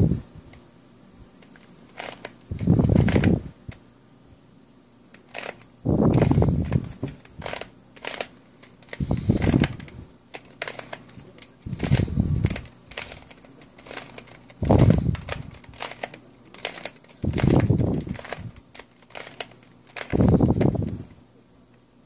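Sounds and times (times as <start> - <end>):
twisty puzzle clicking and rattling: 1.4 - 3.4, 5.1 - 21.0.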